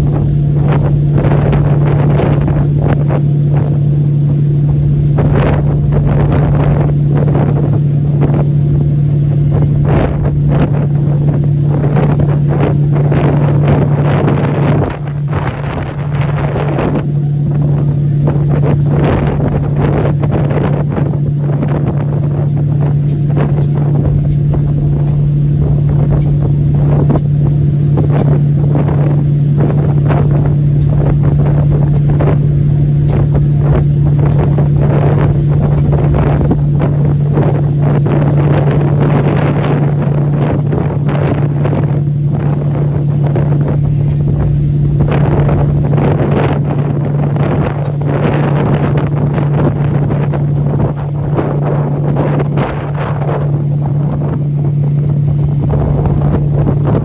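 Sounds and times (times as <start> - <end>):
boat engine droning: 0.0 - 57.0
wind buffeting microphone: 0.0 - 57.0.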